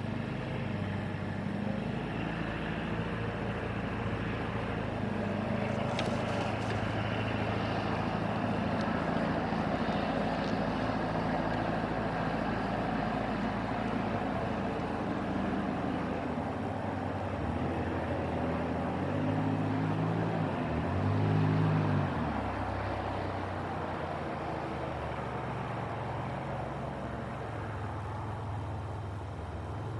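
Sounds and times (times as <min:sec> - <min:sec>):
outdoor background noise: 0:00.0 - 0:29.9
vehicle engine hum: 0:00.0 - 0:29.9.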